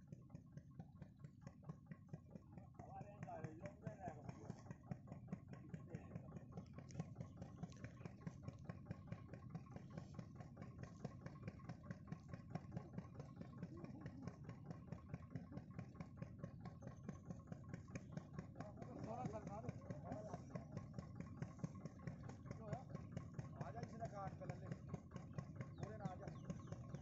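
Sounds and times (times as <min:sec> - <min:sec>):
engine idling with knocking: 0:00.0 - 0:27.0.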